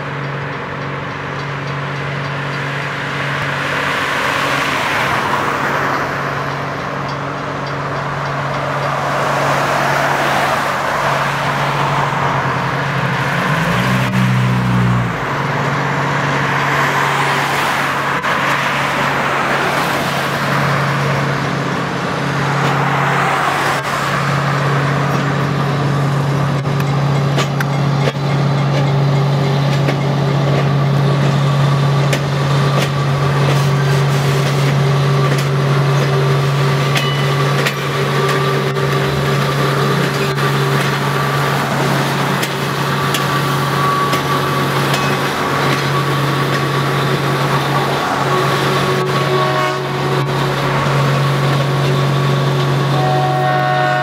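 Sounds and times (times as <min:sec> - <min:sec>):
passing road vehicles tyre noise: 0:00.0 - 0:26.6, 0:31.0 - 0:54.0
diesel engine humming: 0:00.0 - 0:54.0.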